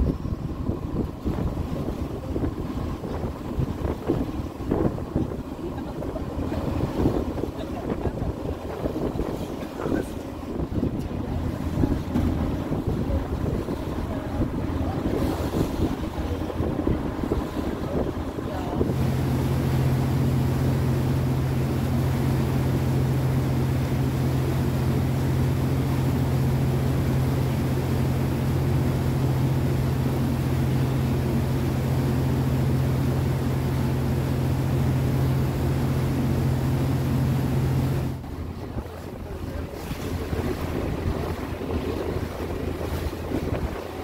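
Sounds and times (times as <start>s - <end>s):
ferry engine humming: 0.0s - 44.0s
water noise: 0.0s - 44.0s
wind: 0.0s - 44.0s.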